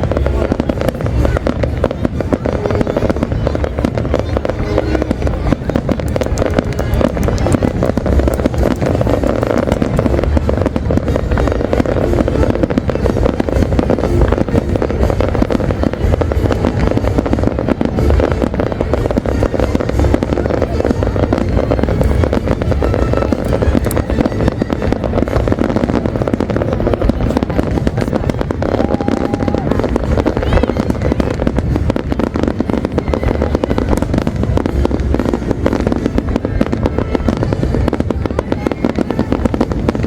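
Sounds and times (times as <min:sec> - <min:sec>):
deep rumble: 0:00.0 - 0:40.0
fireworks bursting and crackling: 0:00.0 - 0:40.0.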